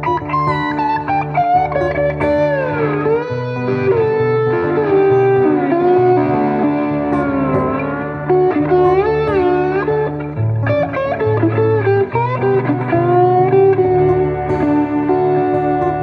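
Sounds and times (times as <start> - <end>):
electric guitar lead bending notes: 0.0 - 16.0
low accompaniment: 0.0 - 16.0.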